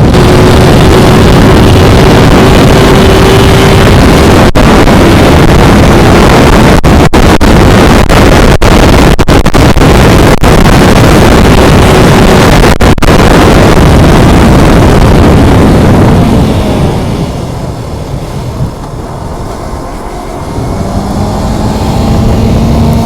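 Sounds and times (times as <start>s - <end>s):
motorcycle engine running: 0.0s - 7.1s, 10.8s - 23.0s
wind hitting microphone: 0.0s - 23.0s.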